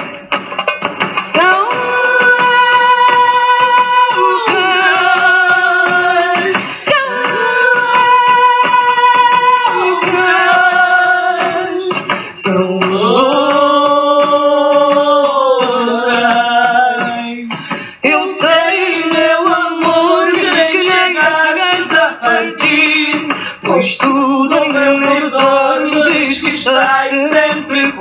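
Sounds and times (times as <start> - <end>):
hand drum beat: 0.0 - 28.0
women singing with vibrato: 1.2 - 28.0.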